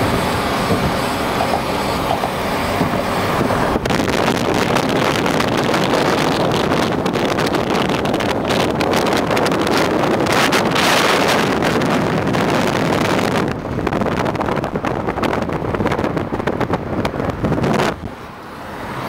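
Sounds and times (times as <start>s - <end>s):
road and wind noise: 0.0s - 19.0s
wind buffeting microphone: 0.0s - 19.0s.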